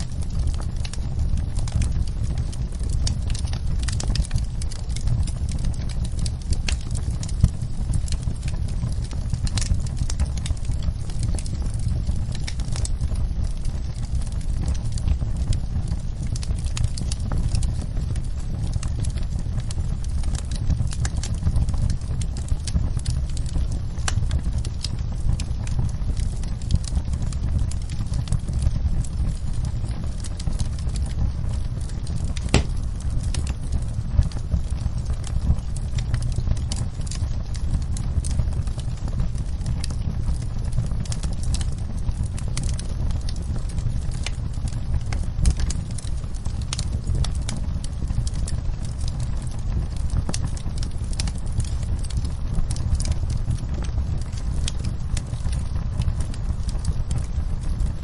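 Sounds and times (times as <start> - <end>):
fire crackles and pops: 0.0 - 58.0
wood fire rumbling: 0.0 - 58.0.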